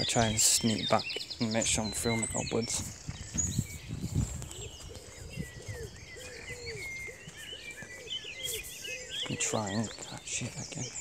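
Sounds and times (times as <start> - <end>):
birds chirping and twittering: 0.0 - 11.0
low arched bird call: 0.0 - 11.0.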